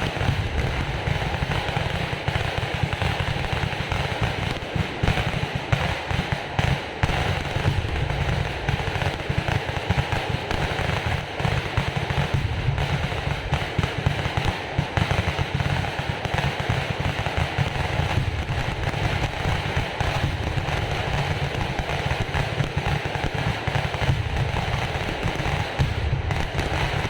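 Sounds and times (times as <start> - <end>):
firecracker explosions: 0.0 - 27.0.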